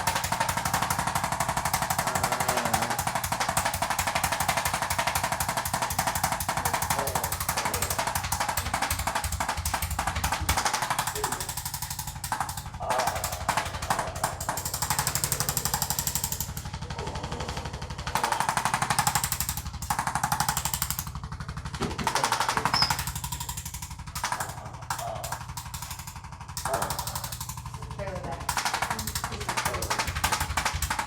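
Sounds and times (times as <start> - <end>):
fast mechanical hammering: 0.0 - 31.0.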